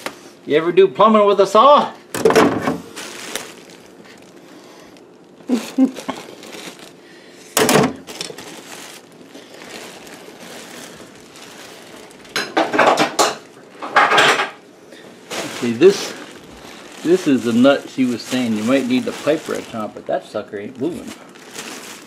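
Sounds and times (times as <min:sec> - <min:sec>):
plastic sheeting rustling: 0:00.0 - 0:22.0.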